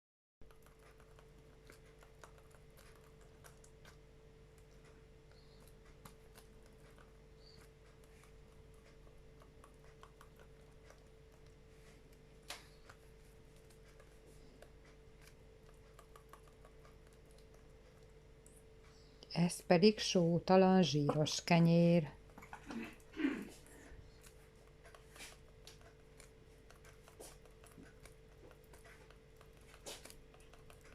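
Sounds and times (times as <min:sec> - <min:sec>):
faint hum: 0:00.4 - 0:30.9.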